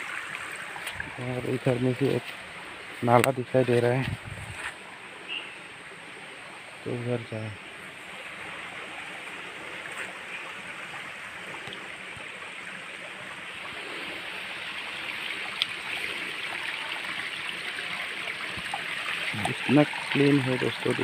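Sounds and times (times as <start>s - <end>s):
water rushing through channels: 0.0s - 21.0s.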